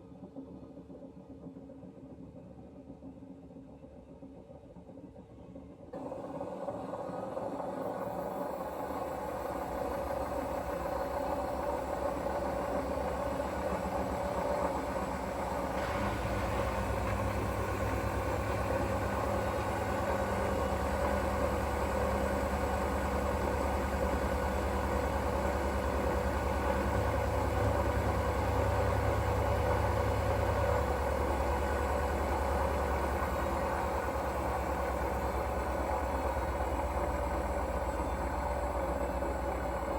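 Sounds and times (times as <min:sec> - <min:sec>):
washing machine humming and rumbling: 0:00.0 - 0:39.9.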